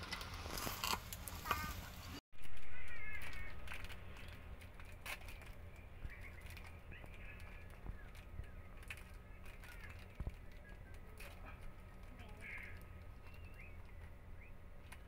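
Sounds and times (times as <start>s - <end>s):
plastic wrappers crinkling: 0.0s - 14.1s
steady low hum: 0.0s - 15.0s.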